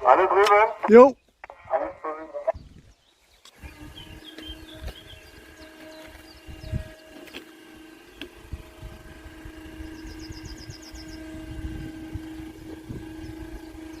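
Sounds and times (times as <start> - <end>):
steady mechanical hum: 1.6 - 14.0.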